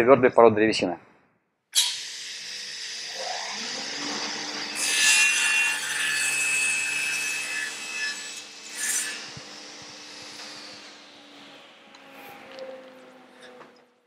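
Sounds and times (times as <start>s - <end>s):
saw blade cutting wood: 1.8s - 13.9s
table saw humming: 1.8s - 14.0s.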